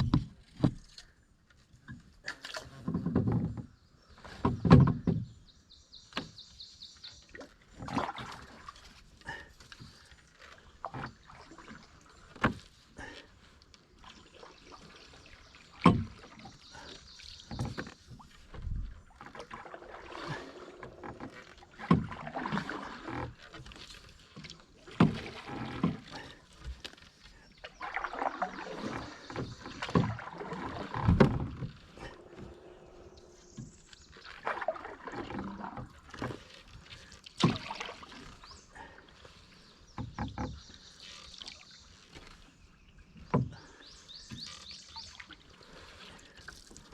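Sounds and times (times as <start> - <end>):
canoe paddle strokes splashing: 0.0 - 46.9.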